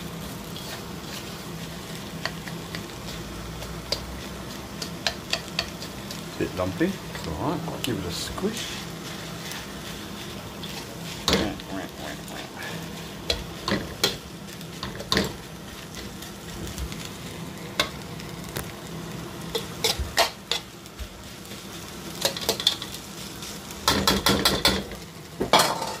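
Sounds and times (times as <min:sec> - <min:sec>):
rice sizzling in frying pan: 0:00.0 - 0:26.0.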